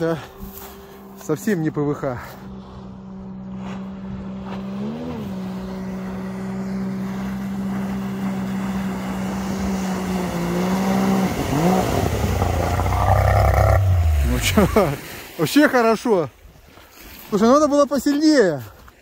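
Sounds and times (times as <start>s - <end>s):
boat outboard motor running: 0.0s - 15.4s.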